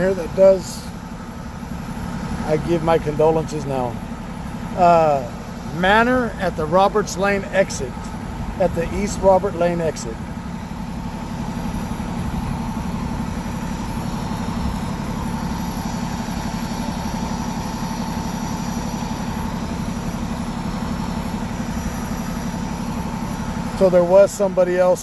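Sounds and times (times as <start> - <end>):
large vehicle engine idling: 0.0 - 25.0.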